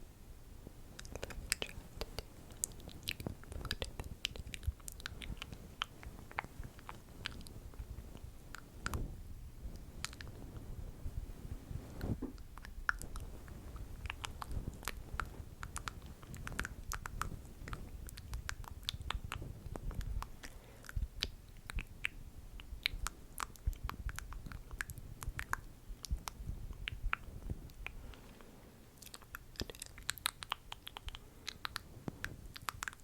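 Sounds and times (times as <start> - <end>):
mouth clicks and smacks: 1.0 - 10.7, 11.9 - 33.0.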